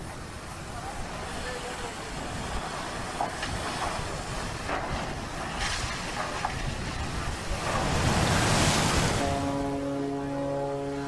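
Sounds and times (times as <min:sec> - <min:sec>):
wind buffeting microphone: 0:00.0 - 0:10.0
sea noise rushing: 0:00.0 - 0:11.0.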